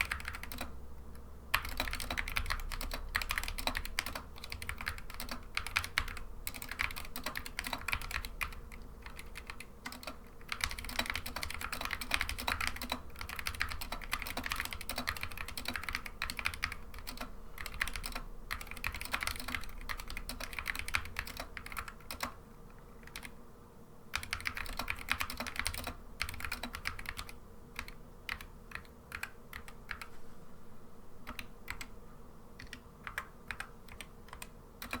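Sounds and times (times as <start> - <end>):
mechanical keyboard typing: 0.0 - 22.4, 23.0 - 23.3, 24.1 - 30.1, 31.2 - 31.9, 32.6 - 35.0.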